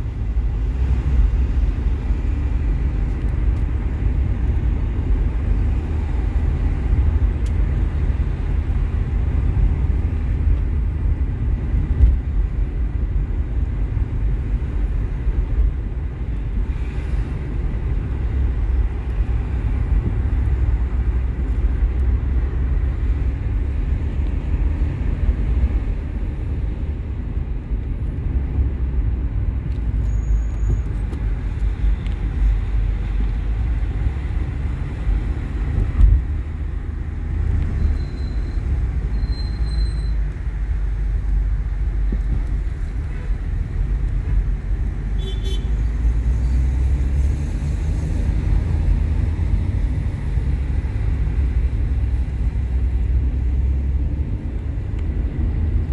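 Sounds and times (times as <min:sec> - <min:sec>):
car cabin tyre and engine rumble: 0:00.0 - 0:55.9.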